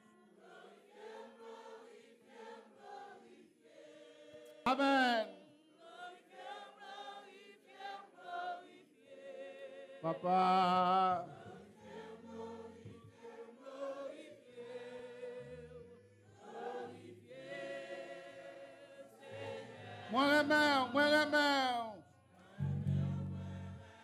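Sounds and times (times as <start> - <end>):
congregation singing: 0.0 - 24.0.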